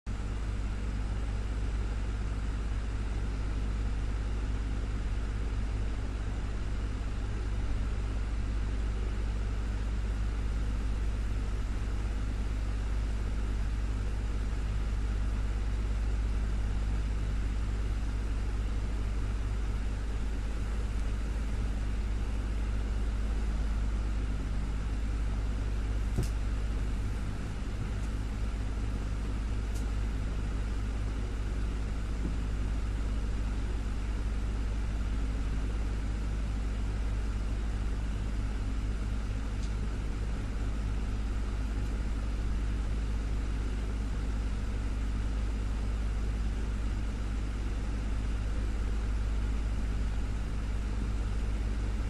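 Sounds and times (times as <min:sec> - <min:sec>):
low motor hum: 0:00.1 - 0:45.7
desktop fan whirring: 0:00.1 - 0:52.0.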